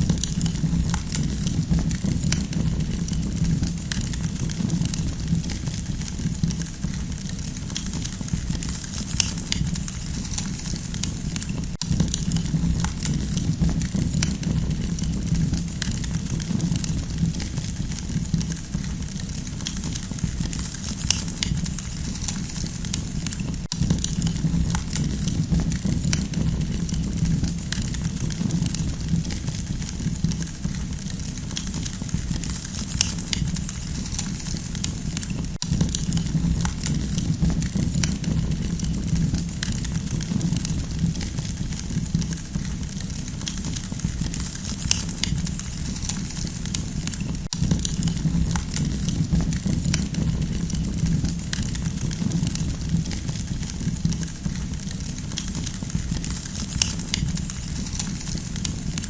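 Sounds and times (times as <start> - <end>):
campfire flames rumbling: 0.0 - 59.0
fire popping and crackling: 0.0 - 59.0.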